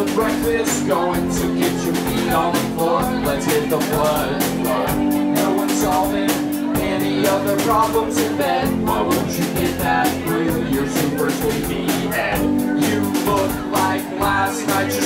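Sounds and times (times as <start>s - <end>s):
live rock band playing: 0.0s - 15.0s
man singing: 0.0s - 15.0s.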